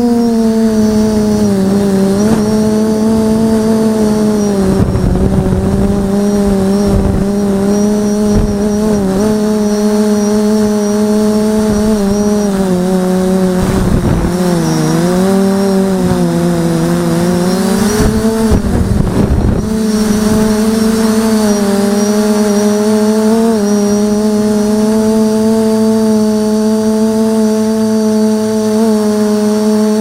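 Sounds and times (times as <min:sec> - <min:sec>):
wind noise rushes: 0:00.0 - 0:25.2
drone motors buzzing whine: 0:00.0 - 0:30.0.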